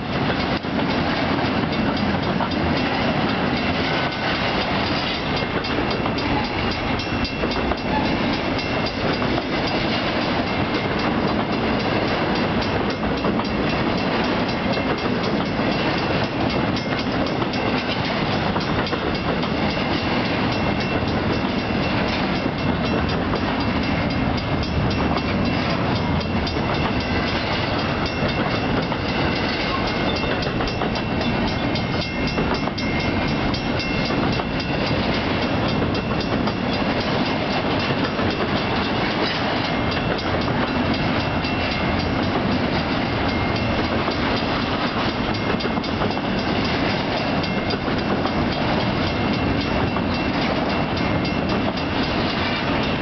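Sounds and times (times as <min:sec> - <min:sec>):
freight train wheels rumbling: 0:00.0 - 0:53.0
wheels clicking over rail joints: 0:00.2 - 0:53.0.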